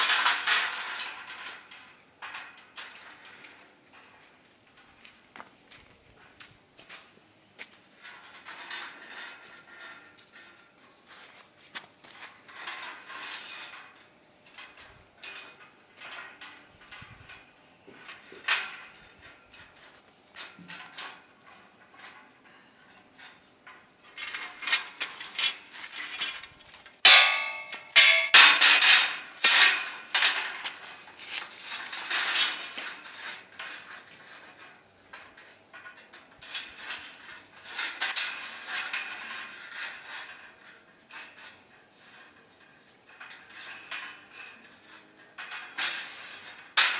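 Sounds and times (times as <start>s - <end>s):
steel gate bars clattering: 0.0s - 4.2s, 8.0s - 10.7s, 12.2s - 46.9s.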